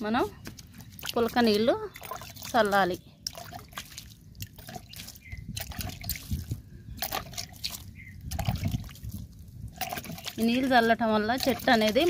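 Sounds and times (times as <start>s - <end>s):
water splashing onto soil: 0.1s - 12.0s.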